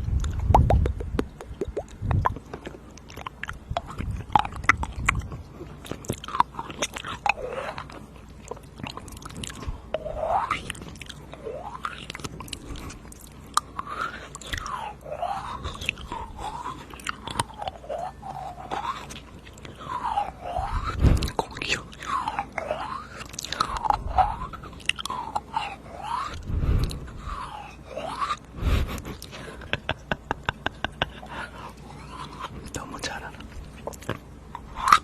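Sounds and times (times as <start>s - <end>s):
wet mouth clicks and smacks: 0.0s - 27.6s, 28.2s - 35.0s
sliding mouth sounds: 0.0s - 35.0s.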